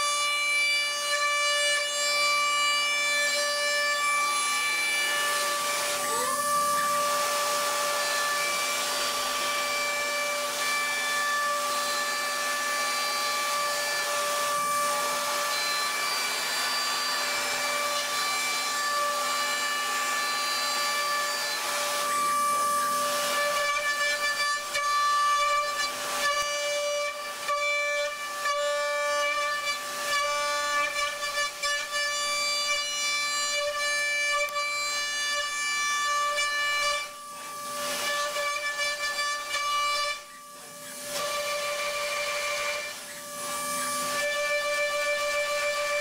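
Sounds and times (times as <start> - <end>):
machine cutting metal whine: 0.0 - 46.0.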